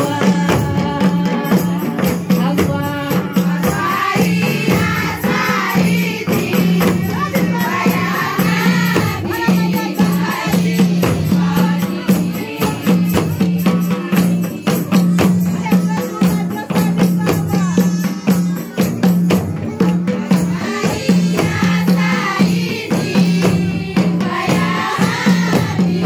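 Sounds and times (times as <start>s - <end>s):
girls singing together: 0.0s - 18.8s, 19.6s - 26.0s
hand percussion beat: 0.0s - 26.0s.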